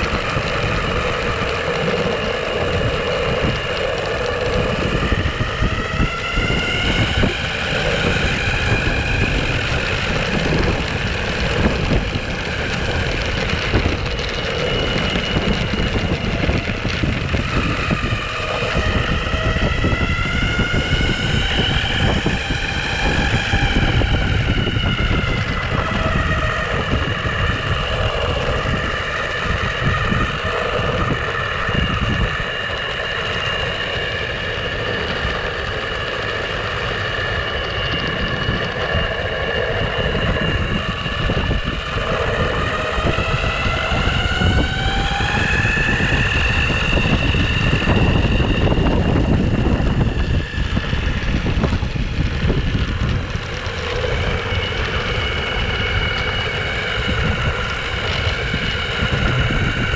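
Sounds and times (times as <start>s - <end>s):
electric skateboard motors whining: 0.0s - 59.9s
low rumble: 0.0s - 59.9s.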